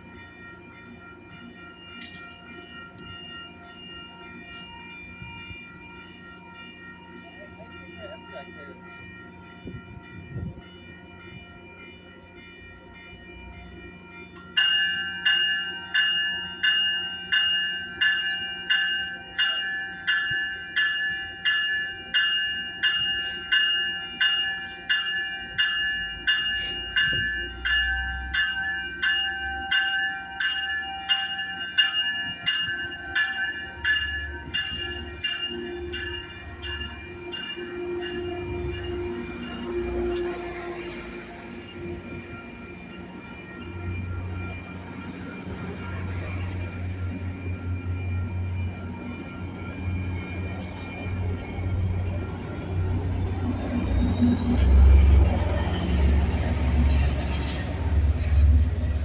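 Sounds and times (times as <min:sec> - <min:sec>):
low train rumble: 0:00.0 - 0:59.0
railroad bell ringing: 0:00.0 - 0:59.0.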